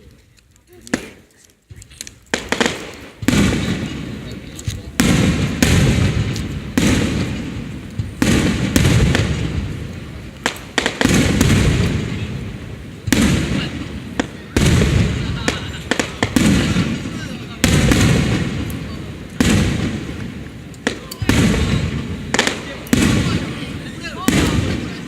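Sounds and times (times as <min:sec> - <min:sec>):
fireworks booming: 0:00.8 - 0:25.0.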